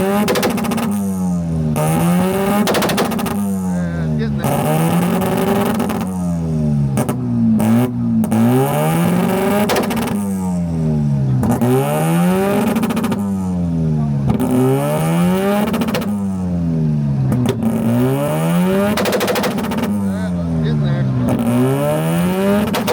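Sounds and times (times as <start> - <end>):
exhaust pops: 0.0 - 16.4, 17.2 - 22.9
car engine revving: 0.0 - 22.9.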